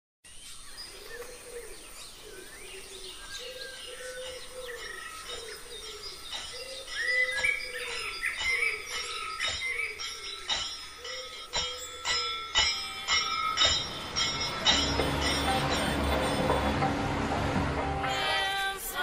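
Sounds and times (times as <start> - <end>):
birds chirping: 0.3 - 19.0.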